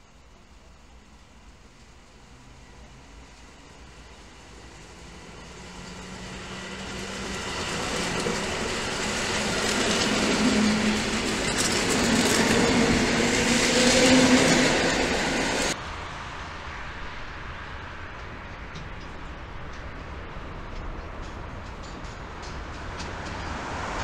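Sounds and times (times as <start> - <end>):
train wheel and rail noise: 0.0 - 24.0.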